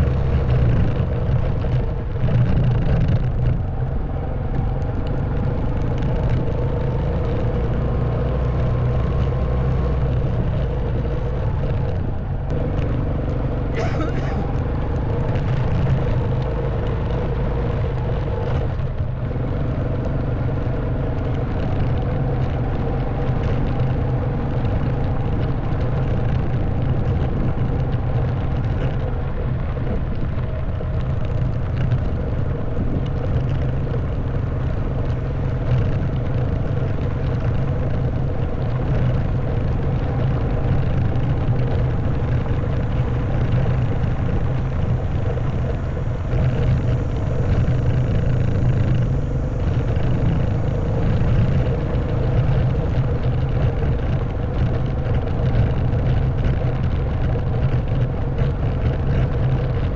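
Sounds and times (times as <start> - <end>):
motorcycle engine running: 0.0 - 59.9
road rumble: 0.0 - 59.9
wind: 0.0 - 59.9.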